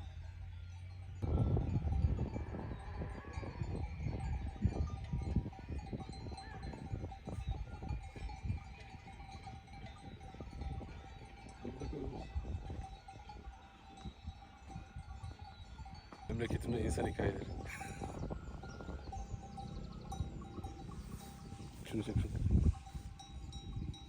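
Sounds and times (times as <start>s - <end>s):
livestock bells clinking: 0.0s - 24.0s.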